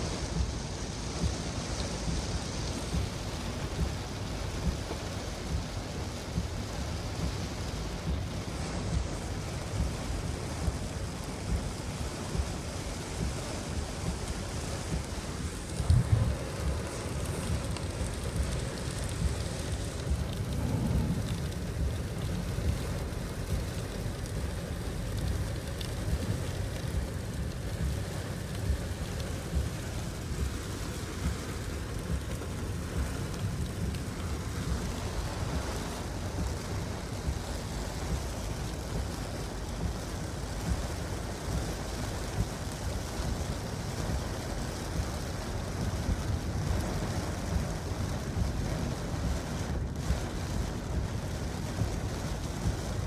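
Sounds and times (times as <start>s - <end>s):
steady rain: 0.0s - 53.0s
wind buffeting microphone: 0.0s - 53.0s.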